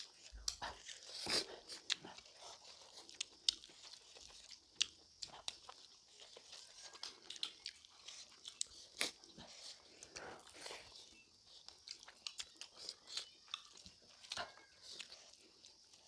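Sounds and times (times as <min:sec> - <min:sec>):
people chewing and lip smacking: 0:00.0 - 0:16.0.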